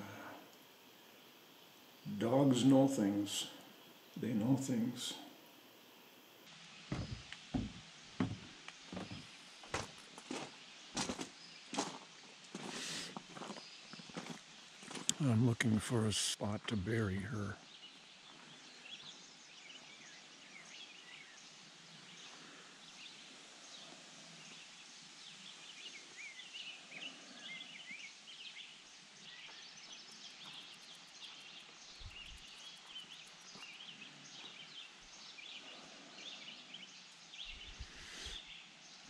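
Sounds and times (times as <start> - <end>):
soft hiss: 0.0 - 39.0
songbirds chirping: 0.0 - 39.0.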